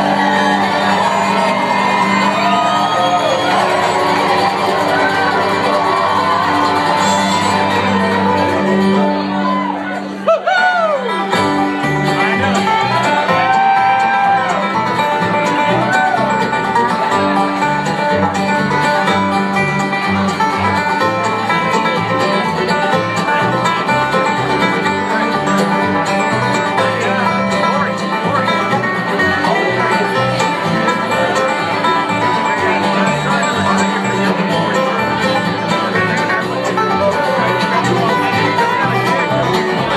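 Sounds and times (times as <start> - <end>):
bluegrass band playing: 0.0 - 39.9.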